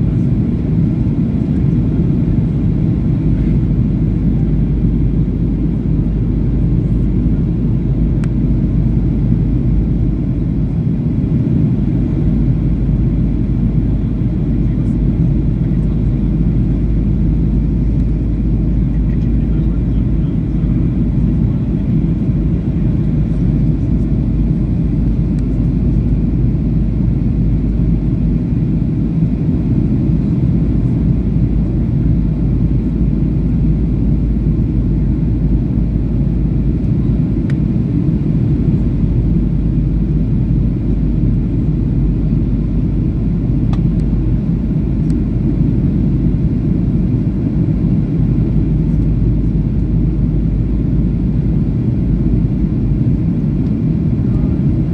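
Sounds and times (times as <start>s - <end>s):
jet engine cabin roar: 0.0s - 54.9s.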